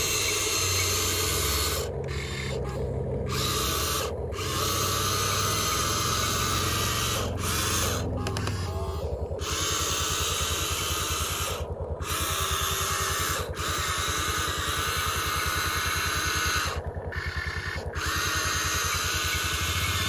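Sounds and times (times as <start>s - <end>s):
small electric motors whirring: 0.0s - 20.0s.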